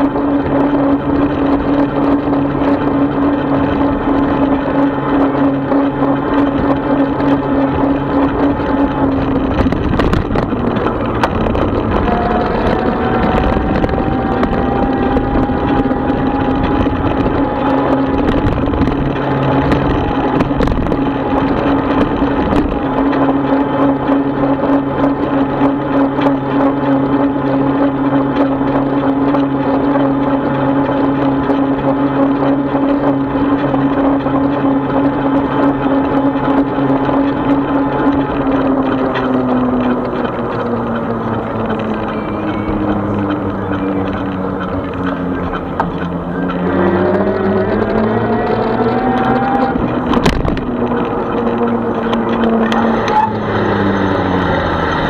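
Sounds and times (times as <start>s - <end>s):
electric bike motor whine: 0.0s - 55.0s
high rising tone: 0.0s - 55.0s
wind noise: 0.0s - 55.0s.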